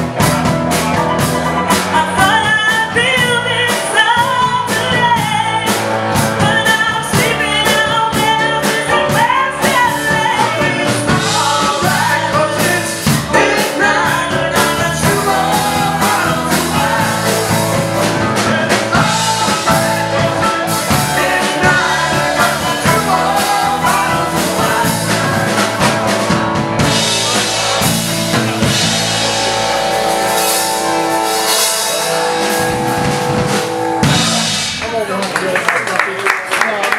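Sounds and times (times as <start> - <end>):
rock band playing: 0.0 - 36.2
person singing: 1.7 - 32.8.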